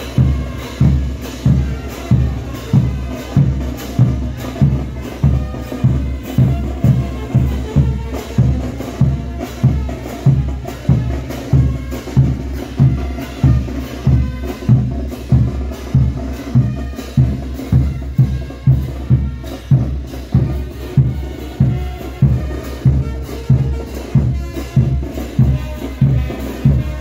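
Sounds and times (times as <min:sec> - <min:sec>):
clacking percussion: 0:00.0 - 0:27.0
festival dance band music: 0:00.0 - 0:27.0.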